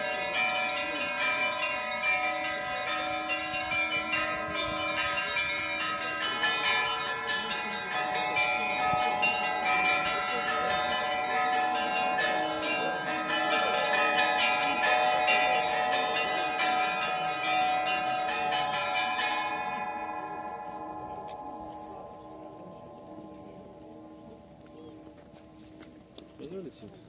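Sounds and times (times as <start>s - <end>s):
church bells ringing: 0.0s - 26.8s.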